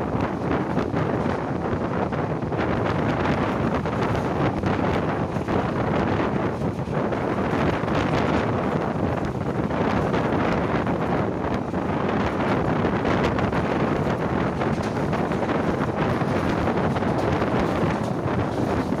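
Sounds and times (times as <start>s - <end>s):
train wheels rumbling on track: 0.0s - 19.0s
wind buffeting the microphone: 0.0s - 19.0s.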